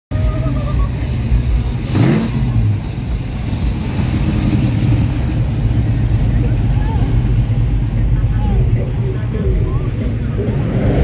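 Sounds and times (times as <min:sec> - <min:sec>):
car engine rumbling: 0:00.1 - 0:11.0.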